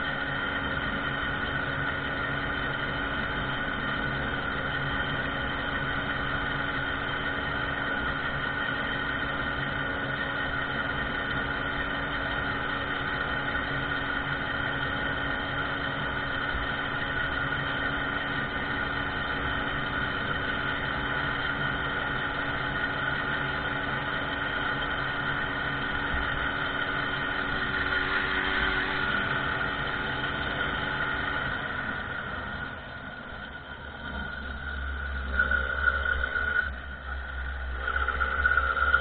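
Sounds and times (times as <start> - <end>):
moped engine running: 0.0 - 39.0.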